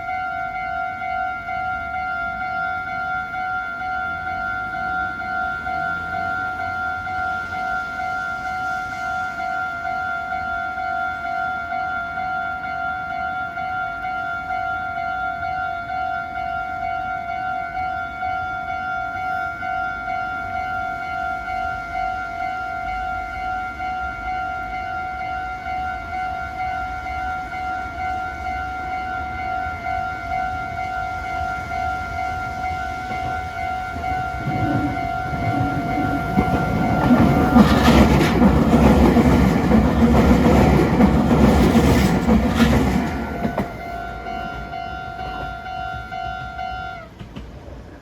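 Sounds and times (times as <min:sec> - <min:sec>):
electric train rumbling: 0:00.0 - 0:48.0
level crossing warning bell: 0:00.0 - 0:48.0.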